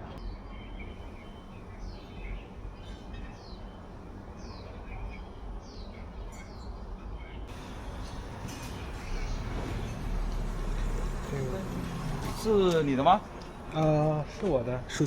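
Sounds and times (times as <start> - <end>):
bird chirping: 0.2 - 15.0.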